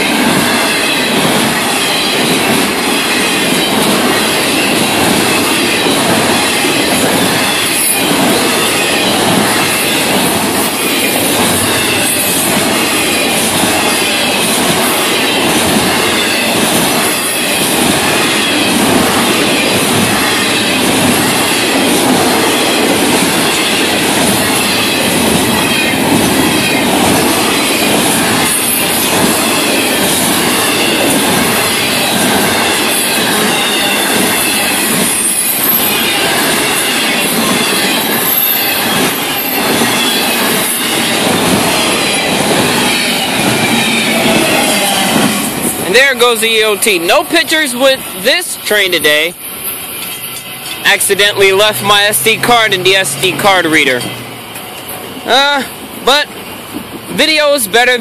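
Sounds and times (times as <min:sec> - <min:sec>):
steel wheels rushing on rail: 0:00.0 - 0:58.0.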